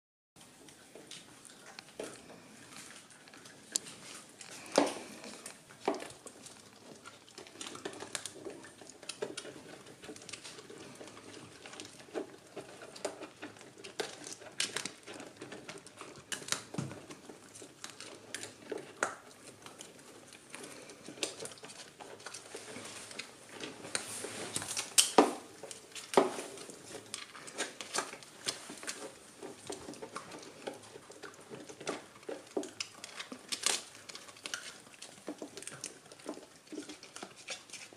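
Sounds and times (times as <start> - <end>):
puppies crunching chews: 0.4 - 37.9.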